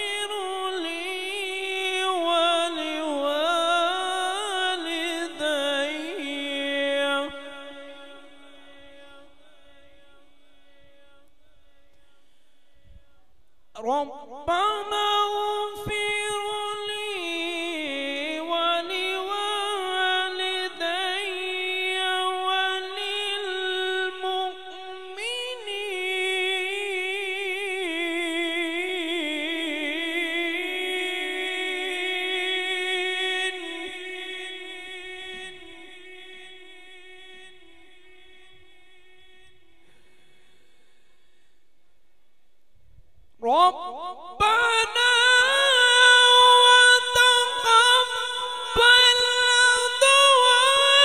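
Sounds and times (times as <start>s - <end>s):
man reciting melodically: 0.0s - 41.8s, 43.3s - 51.0s.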